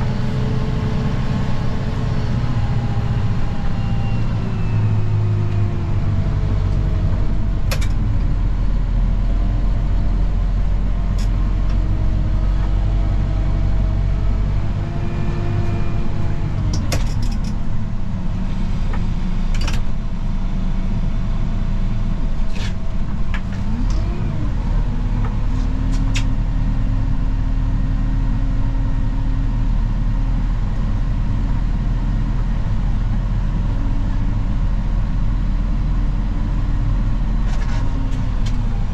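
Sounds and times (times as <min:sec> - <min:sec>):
snowplow engine under load: 0:00.0 - 0:38.9.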